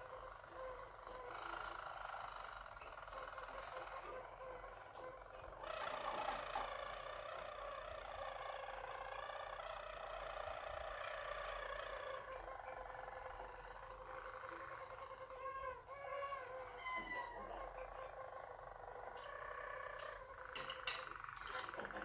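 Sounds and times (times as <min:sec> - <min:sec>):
canaries singing trilled song: 0:00.0 - 0:22.0.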